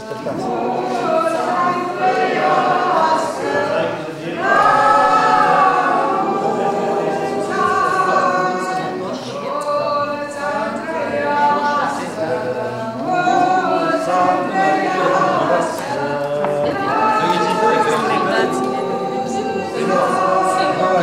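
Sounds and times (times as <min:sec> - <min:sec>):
choir singing a cappella: 0:00.0 - 0:21.0.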